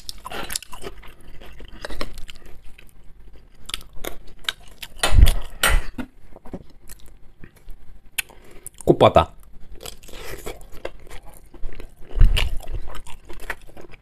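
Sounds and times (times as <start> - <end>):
man chewing: 0.0 - 14.0.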